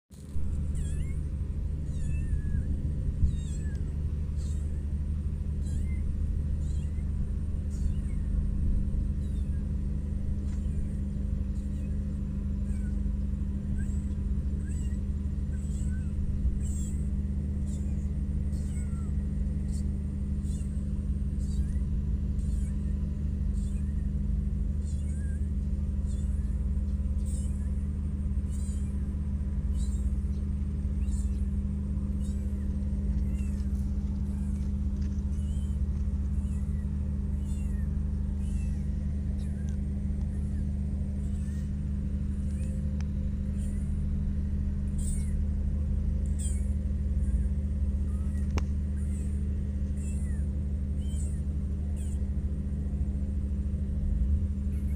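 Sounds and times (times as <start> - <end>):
low machine hum: 0.1 - 54.9
kitten mewing: 0.2 - 54.9.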